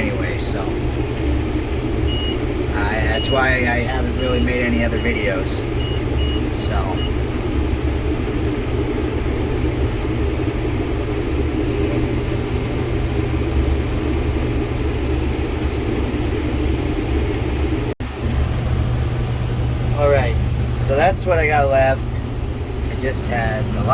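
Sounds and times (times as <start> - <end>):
combine harvester engine droning: 0.0 - 23.9.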